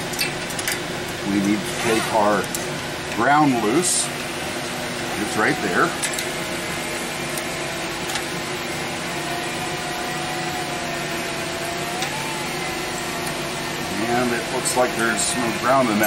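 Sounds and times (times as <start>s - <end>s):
fan or motor whirring: 0.0s - 16.0s.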